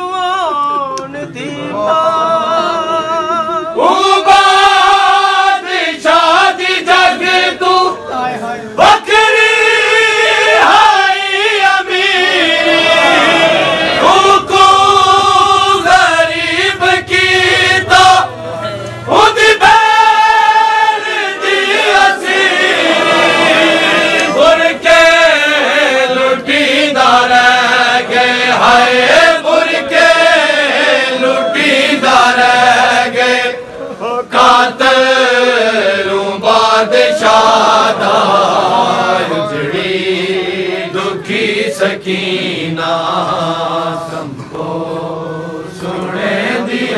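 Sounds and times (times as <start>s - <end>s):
men chanting together: 1.1s - 46.9s.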